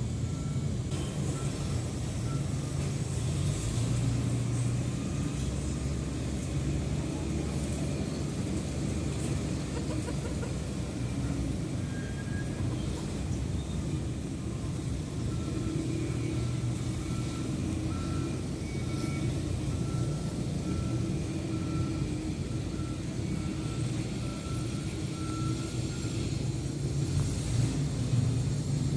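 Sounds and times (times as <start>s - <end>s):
traffic rumble: 0.0s - 28.9s
reversing alarm beeping: 0.1s - 8.2s, 8.8s - 26.3s.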